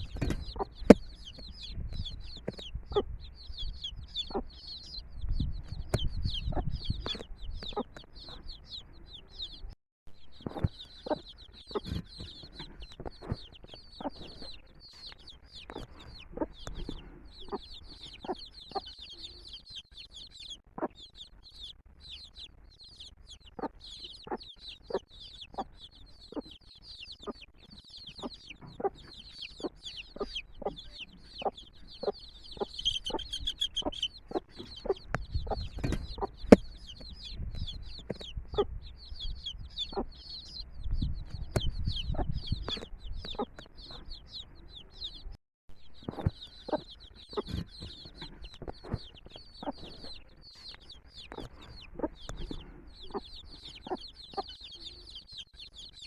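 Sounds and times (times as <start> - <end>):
hen clucking: 0.0 - 9.8, 10.4 - 45.3, 45.9 - 56.0
chicks peeping: 0.0 - 56.0.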